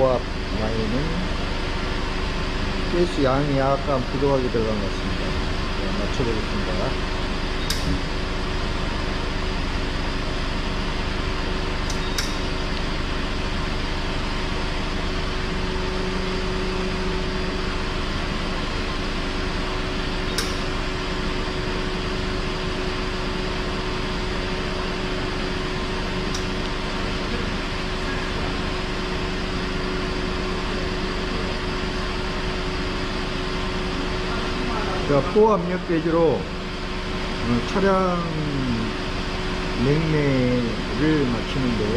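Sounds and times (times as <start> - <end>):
car air conditioning whirring: 0.0 - 41.9
car engine idling: 0.0 - 41.9
constant hum tone: 0.0 - 41.9.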